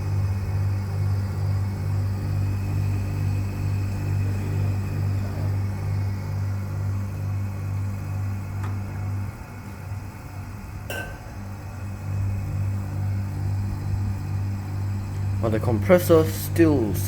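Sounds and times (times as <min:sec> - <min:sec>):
air conditioner compressor humming: 0:00.0 - 0:17.0.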